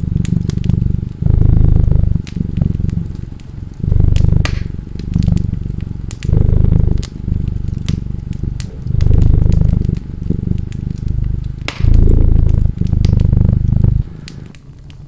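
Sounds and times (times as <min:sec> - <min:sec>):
cat purring: 0:00.0 - 0:15.0
wood fire crackling: 0:00.0 - 0:15.0.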